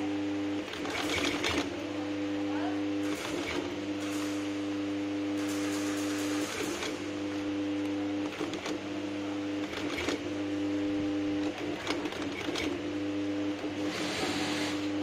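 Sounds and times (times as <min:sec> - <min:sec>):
sewing machine motor hum: 0:00.0 - 0:15.0.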